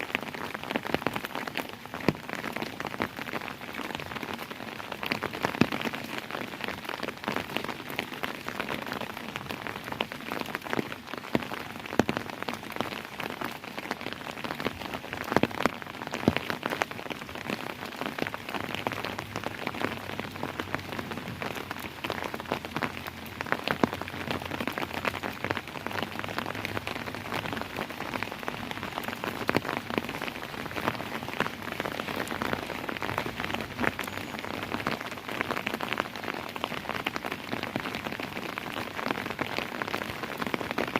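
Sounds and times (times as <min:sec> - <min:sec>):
rain drops tapping on hard surface: 0:00.0 - 0:40.9.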